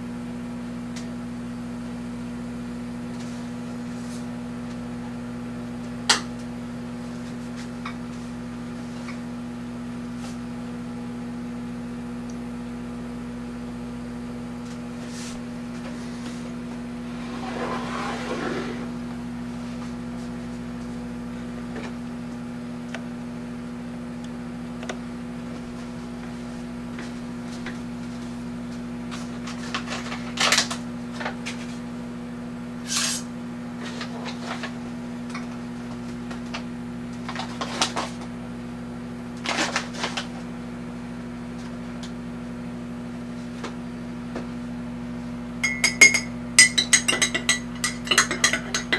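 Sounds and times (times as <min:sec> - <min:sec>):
microwave oven humming: 0:00.0 - 0:48.9.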